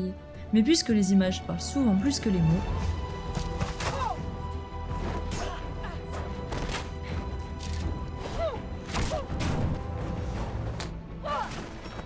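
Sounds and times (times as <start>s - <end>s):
action film music: 0.0s - 12.0s.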